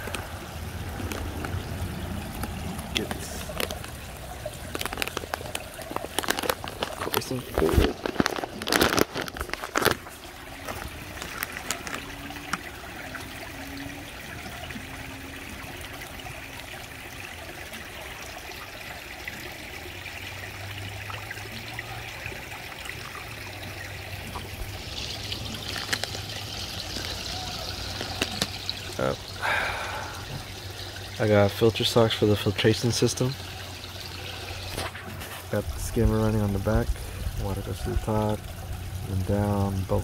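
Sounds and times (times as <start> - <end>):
water trickling into pond: 0.0 - 40.0.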